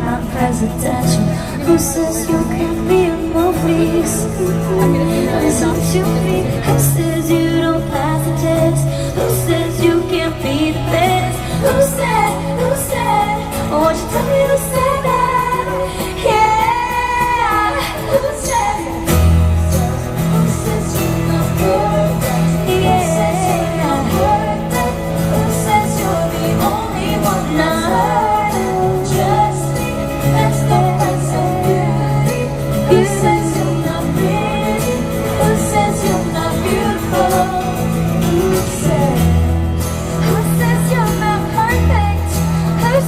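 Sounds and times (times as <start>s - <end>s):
live pop band playing: 0.0s - 43.0s
woman singing: 0.0s - 43.0s.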